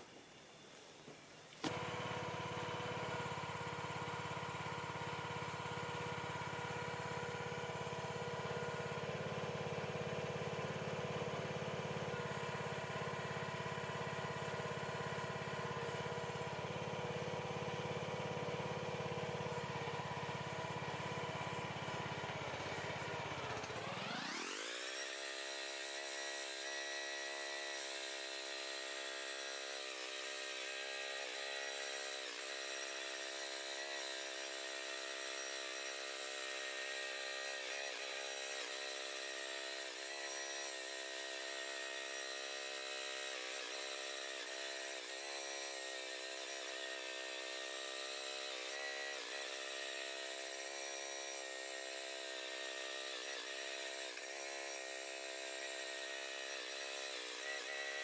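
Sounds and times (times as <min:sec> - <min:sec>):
power machine motor running: 0:01.6 - 0:58.0.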